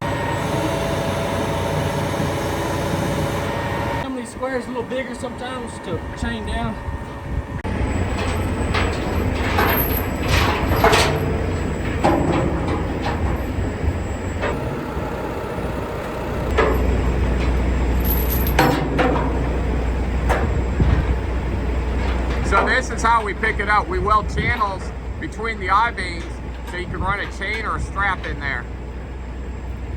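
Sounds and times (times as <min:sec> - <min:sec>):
heavy machinery engine running: 0:00.0 - 0:29.9
metallic squeals and clanks: 0:04.9 - 0:29.9.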